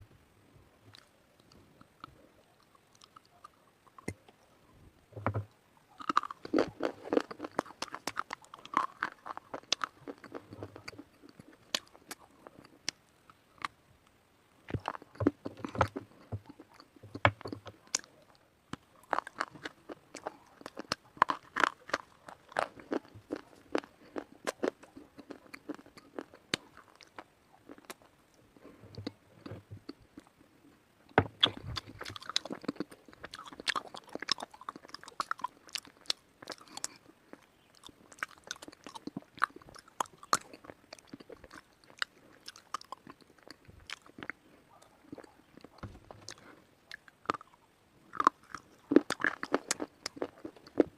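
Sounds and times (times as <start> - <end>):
chewing brittle slate: 5.9 - 13.0, 14.7 - 30.3, 31.2 - 50.9.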